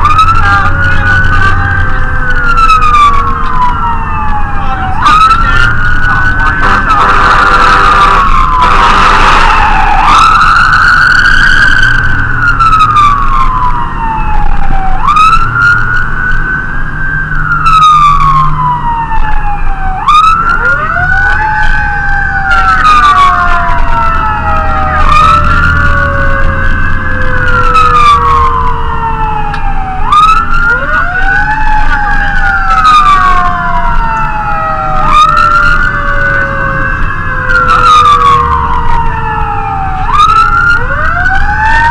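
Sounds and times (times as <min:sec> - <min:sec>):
fire engine siren wailing: 0:00.0 - 0:41.9
low engine drone: 0:00.0 - 0:41.9
lower siren tone winding up: 0:00.0 - 0:41.9.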